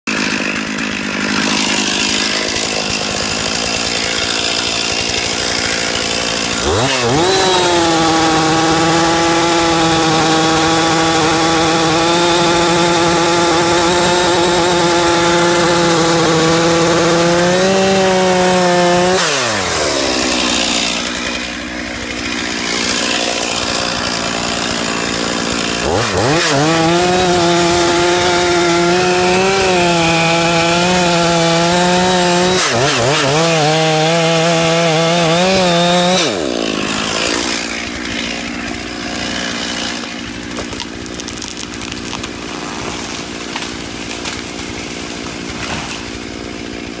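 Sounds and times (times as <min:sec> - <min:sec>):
chainsaw cutting tree trunk: 0:00.0 - 0:47.0.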